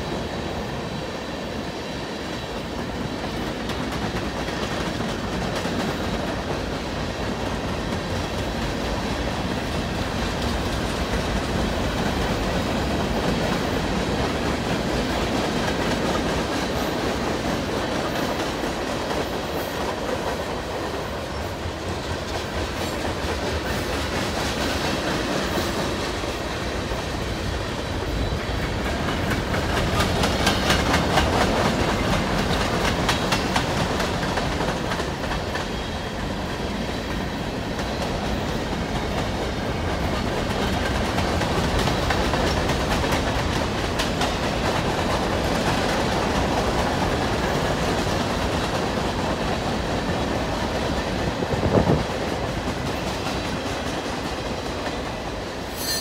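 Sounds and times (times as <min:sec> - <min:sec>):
clickety-clack over rail joints: 0:00.0 - 0:55.8
train wheels rumbling on rails: 0:00.0 - 0:56.0.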